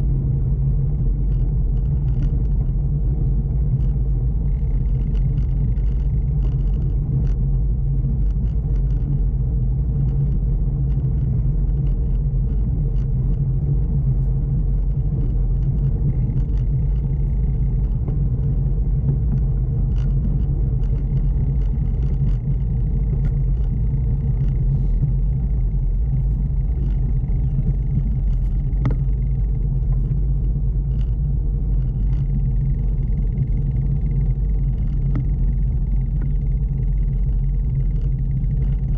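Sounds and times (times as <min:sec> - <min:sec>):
faint ticks and rattles: 0:00.0 - 0:38.9
bicycle rolling on wooden boardwalk: 0:00.4 - 0:38.9.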